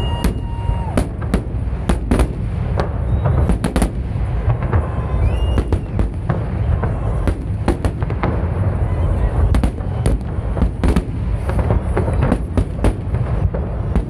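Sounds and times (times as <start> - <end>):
fireworks bursts and cracks: 0.0 - 14.0.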